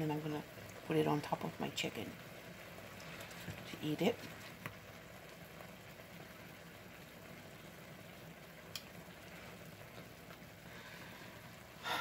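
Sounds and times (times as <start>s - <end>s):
gravy bubbling: 0.0s - 12.0s.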